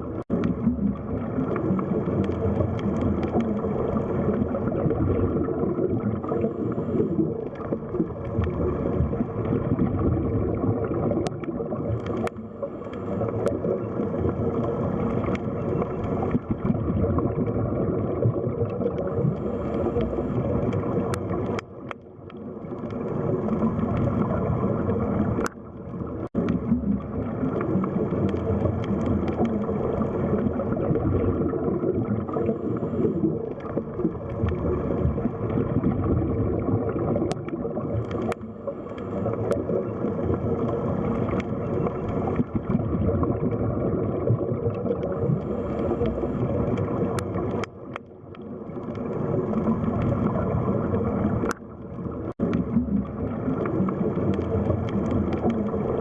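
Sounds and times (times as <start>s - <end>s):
underwater water wash: 0.0s - 56.0s.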